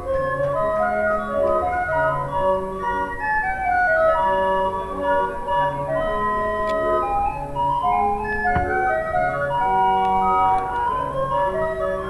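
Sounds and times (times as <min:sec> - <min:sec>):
barrel organ playing a tune: 0:00.0 - 0:12.0.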